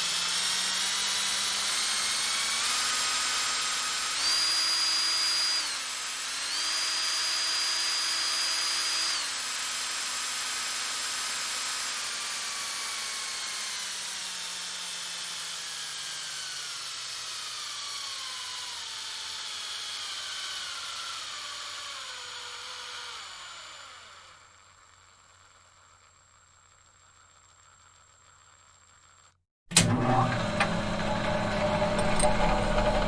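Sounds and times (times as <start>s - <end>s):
electric motor winding down: 0.0s - 33.0s.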